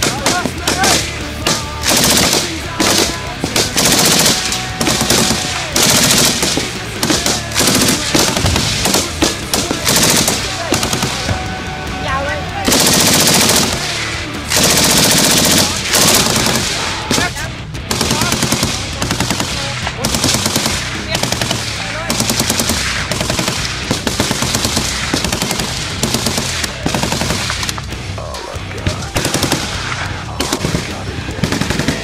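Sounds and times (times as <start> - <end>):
machine gun automatic fire: 0.0 - 11.2, 12.7 - 17.3, 17.9 - 27.8, 29.1 - 32.0.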